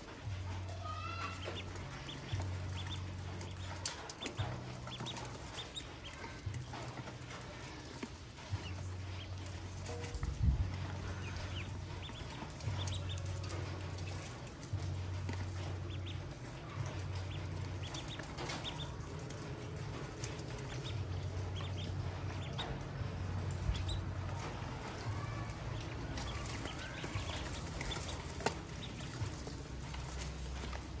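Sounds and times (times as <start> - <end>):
ducklings peeping: 0.0 - 31.0
steady low hum: 1.5 - 31.0.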